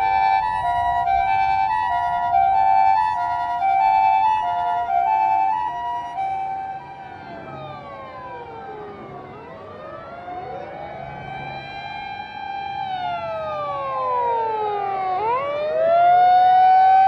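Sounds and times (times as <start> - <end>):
emergency vehicle sirens wailing: 0.0 - 17.0
two-tone ambulance siren: 0.0 - 17.0.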